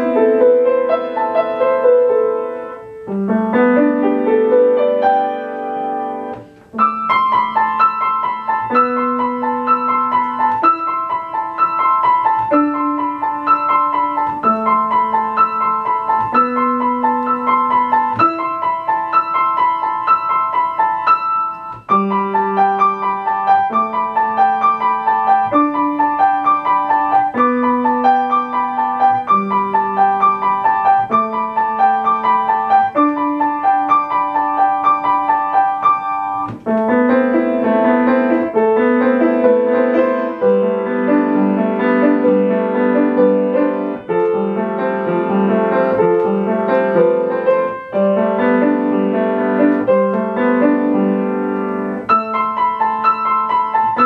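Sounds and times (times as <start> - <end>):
solo piano: 0.0 - 54.0.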